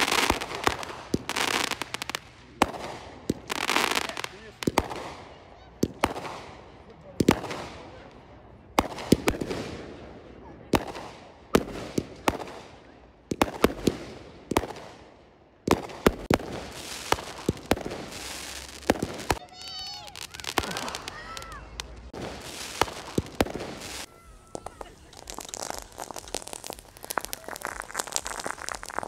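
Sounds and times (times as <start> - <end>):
fireworks bangs with crackle: 0.0 - 29.0.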